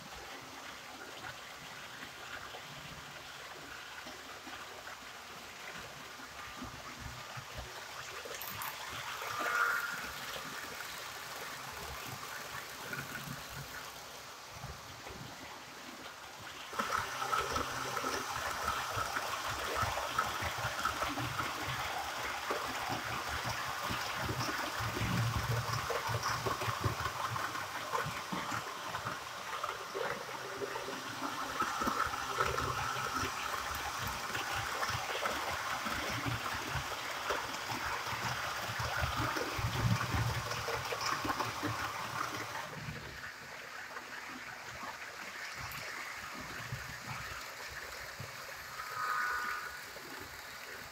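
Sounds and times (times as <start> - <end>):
model train rolling on rails: 0.0 - 50.9.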